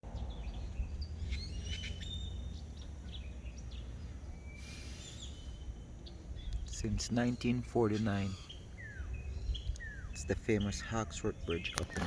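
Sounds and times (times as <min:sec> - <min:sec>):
steady low rumble: 0:00.0 - 0:12.0
birds chirping and calling: 0:00.1 - 0:12.0.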